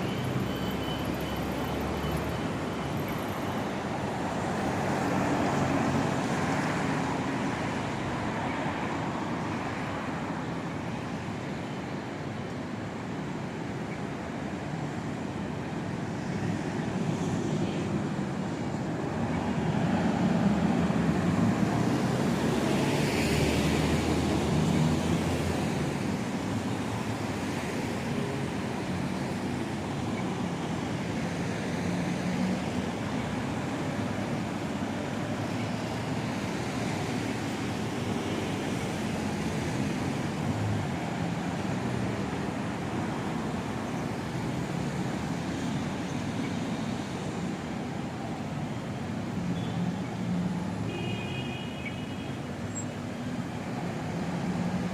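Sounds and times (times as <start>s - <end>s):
city street traffic: 0.0s - 54.9s.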